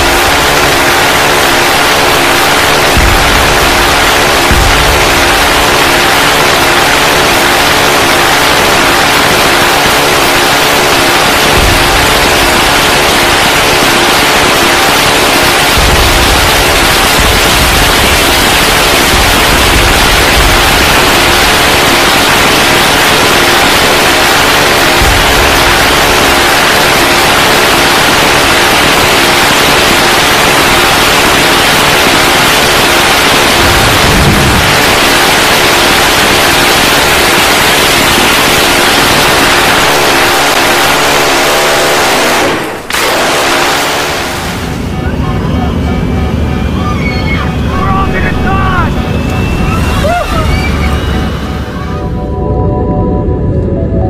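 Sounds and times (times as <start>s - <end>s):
jet aircraft roar: 0.0s - 54.0s.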